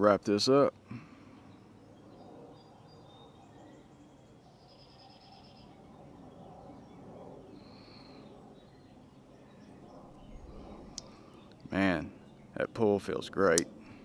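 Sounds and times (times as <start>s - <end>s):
faint bird chirps: 0.9s - 12.9s.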